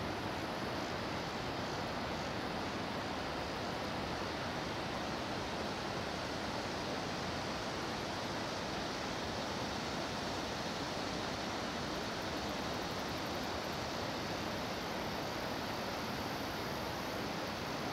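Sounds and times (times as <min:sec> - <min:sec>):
water rushing over a dam: 0:00.0 - 0:17.9.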